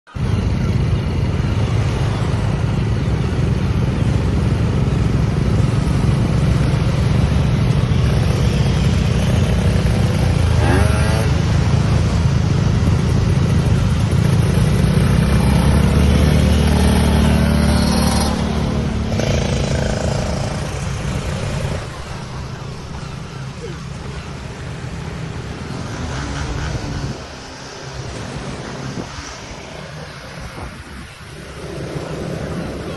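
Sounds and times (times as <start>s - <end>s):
motorcycle engine rumbling: 0.1s - 32.9s.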